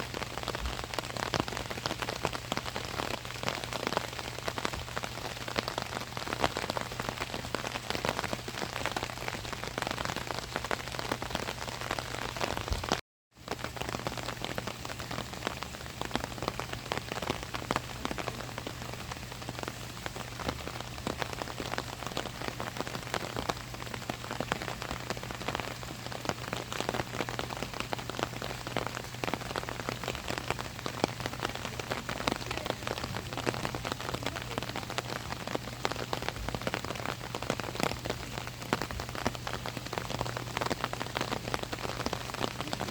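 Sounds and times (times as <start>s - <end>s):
rain on an umbrella: 0.0s - 42.9s.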